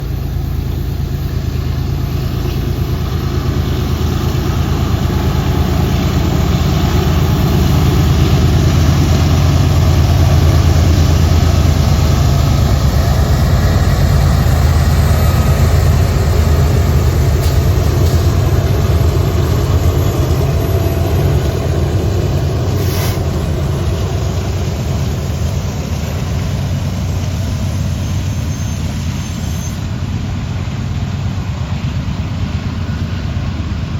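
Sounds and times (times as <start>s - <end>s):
heavy engine rumbling: 0.0s - 33.9s.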